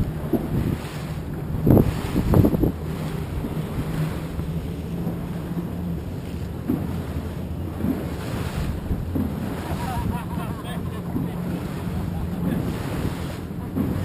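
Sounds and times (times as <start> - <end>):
boat engine hum: 0.0 - 14.0
water splashing: 0.0 - 14.0
wind buffeting microphone: 0.0 - 14.0.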